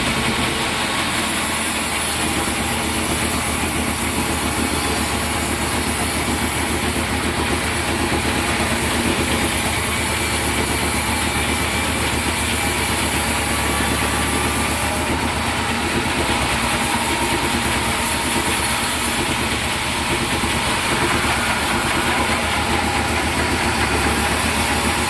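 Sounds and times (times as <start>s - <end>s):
sawmill machinery drone: 0.0s - 25.0s.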